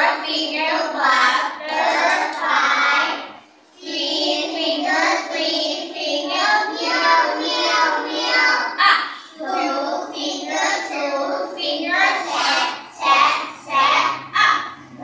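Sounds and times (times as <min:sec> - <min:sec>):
young children singing together: 0:00.0 - 0:15.0.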